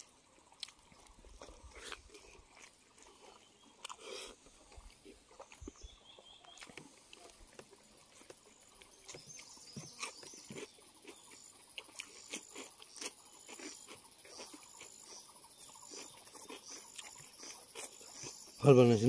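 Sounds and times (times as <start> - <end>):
chewing: 0.0 - 18.6.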